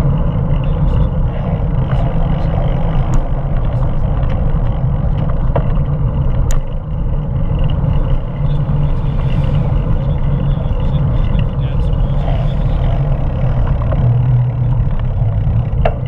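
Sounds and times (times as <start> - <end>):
road rumble: 0.0 - 16.0
wind buffeting microphone: 0.0 - 16.0.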